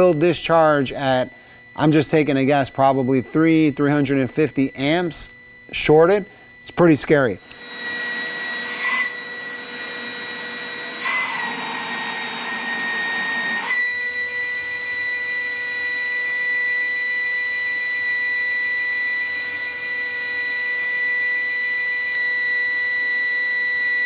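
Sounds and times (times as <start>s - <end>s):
electric ducted fan whine: 0.0s - 23.1s.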